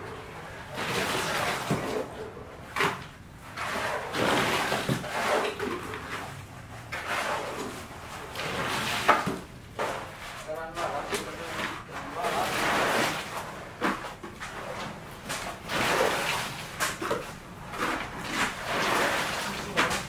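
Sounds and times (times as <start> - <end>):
tools and buckets clanking on concrete: 0.0 - 20.0.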